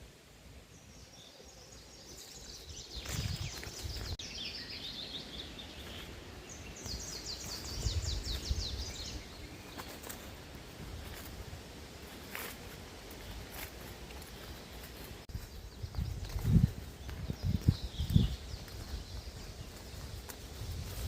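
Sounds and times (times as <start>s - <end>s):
songbird singing: 0.6s - 21.0s.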